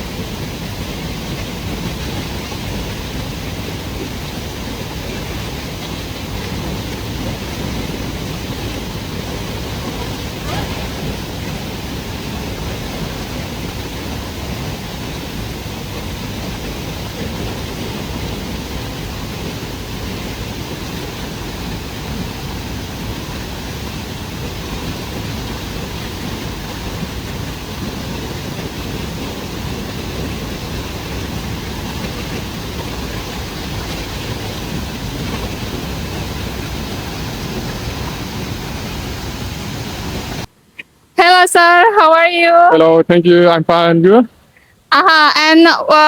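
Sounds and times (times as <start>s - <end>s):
waterfall rushing: 0.0s - 40.5s.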